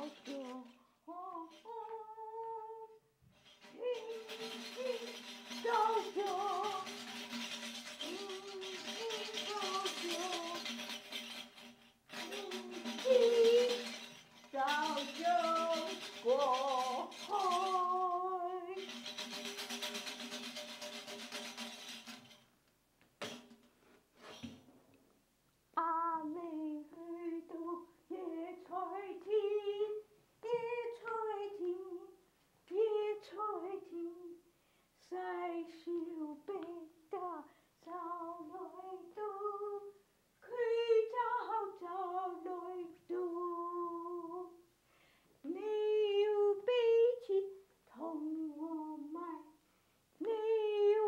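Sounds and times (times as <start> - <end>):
woman singing unaccompanied: 0.0 - 21.0, 25.8 - 34.4, 35.0 - 44.7, 45.4 - 49.6, 50.2 - 51.0.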